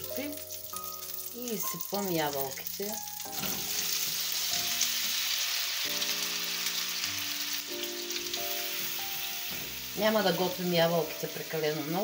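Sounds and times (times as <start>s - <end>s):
apples sizzling in butter: 0.0s - 12.0s.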